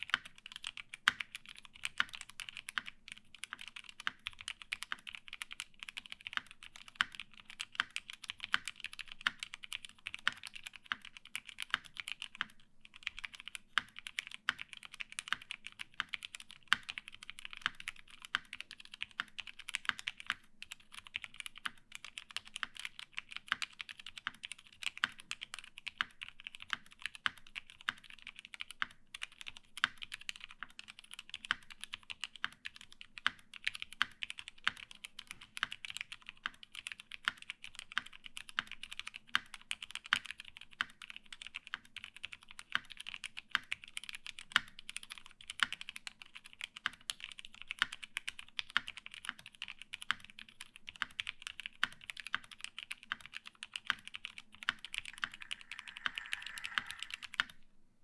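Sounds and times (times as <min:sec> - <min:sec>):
mechanical keyboard typing: 0:00.0 - 0:57.6.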